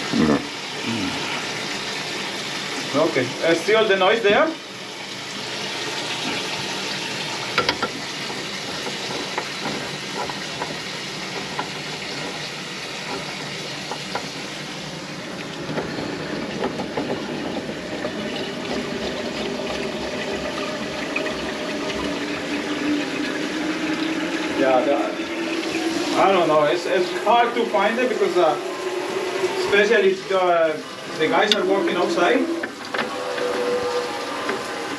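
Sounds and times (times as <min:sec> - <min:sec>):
faucet water running into sink: 0:00.0 - 0:34.9.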